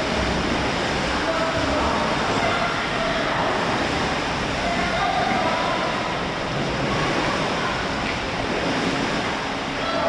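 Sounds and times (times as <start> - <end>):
paddles splashing water: 0.0 - 10.0.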